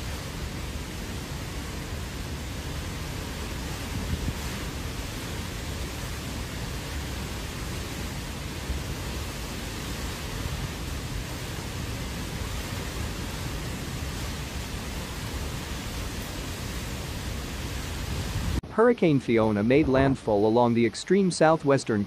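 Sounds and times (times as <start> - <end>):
hurricane wind with rain: 0.0 - 18.7.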